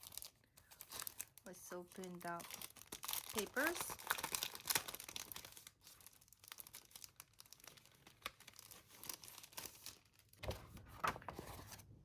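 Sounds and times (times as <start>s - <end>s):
paper crinkling and rustling: 0.0s - 1.4s, 2.0s - 12.0s.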